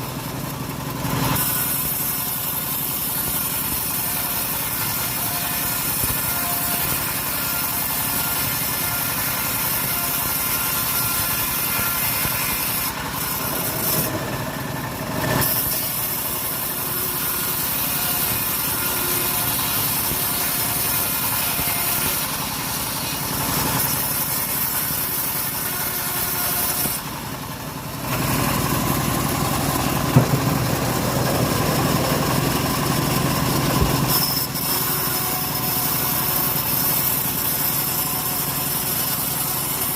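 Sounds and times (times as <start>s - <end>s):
saw engine running: 0.0s - 39.9s.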